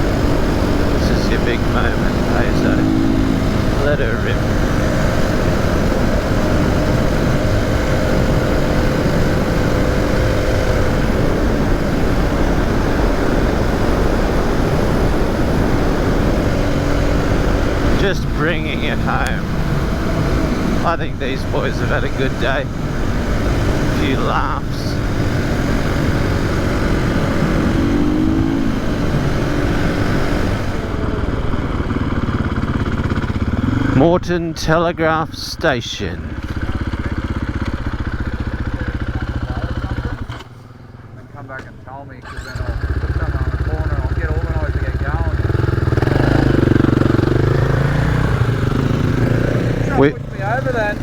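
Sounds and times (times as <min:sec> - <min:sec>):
loud steady rushing noise: 0:00.0 - 0:40.1, 0:43.3 - 0:51.0
dirt bike engine: 0:00.0 - 0:51.0.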